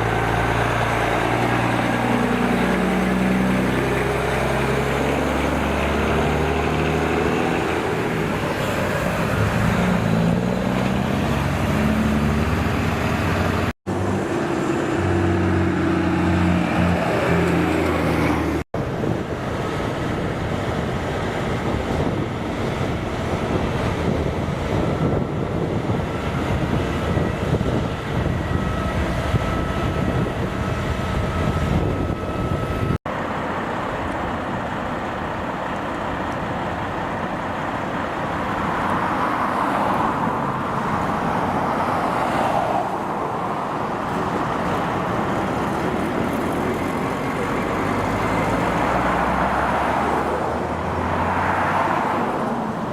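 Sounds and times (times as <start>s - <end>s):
trucks driving past: 0.0s - 52.9s.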